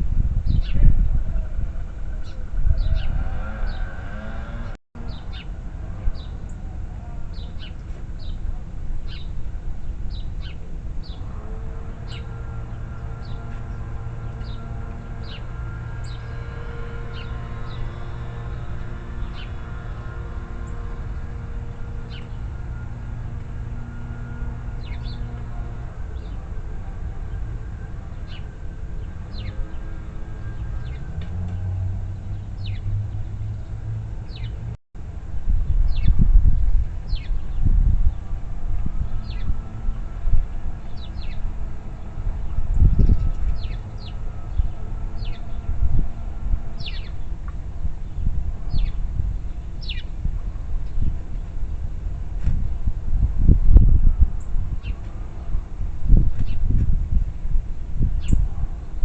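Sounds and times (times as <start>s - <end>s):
low motor hum: 0.0s - 59.0s
low rumble of traffic: 0.0s - 59.0s
songbirds chirping: 0.1s - 34.8s, 35.5s - 59.0s.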